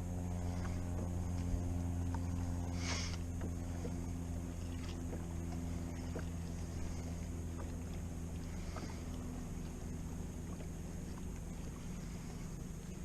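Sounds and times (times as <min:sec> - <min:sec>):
watercraft engine idling: 0:00.0 - 0:13.0.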